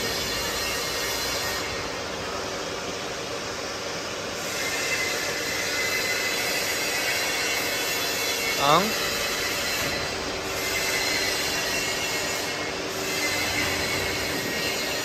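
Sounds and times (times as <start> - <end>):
mixer machinery humming and whining: 0.0 - 15.0.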